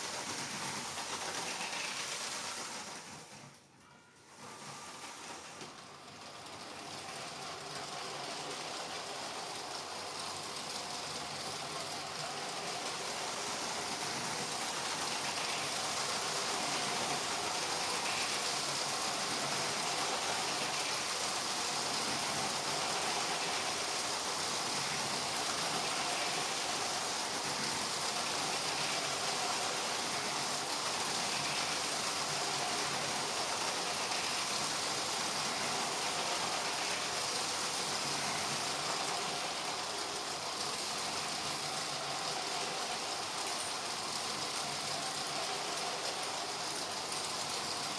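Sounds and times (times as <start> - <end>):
toy trains whirring and rattling: 0.0 - 47.9.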